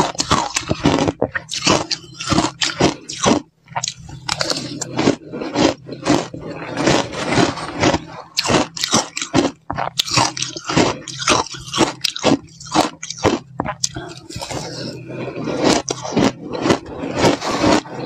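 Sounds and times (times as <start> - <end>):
chewing crunchy shaved ice: 0.0 - 18.0.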